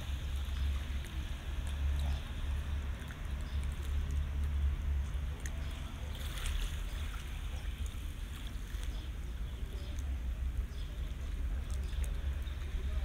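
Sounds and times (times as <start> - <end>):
waves lapping on pebbles: 0.0 - 13.0.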